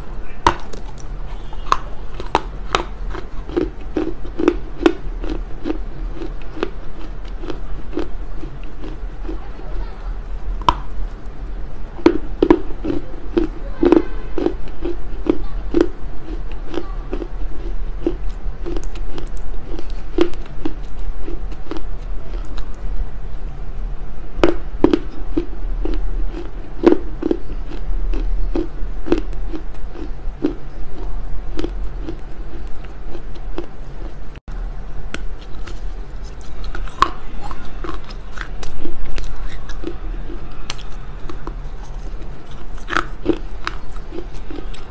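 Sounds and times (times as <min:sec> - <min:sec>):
clay being chewed and crunched: 0:00.4 - 0:09.4, 0:10.5 - 0:23.5, 0:24.4 - 0:34.5, 0:35.1 - 0:44.9.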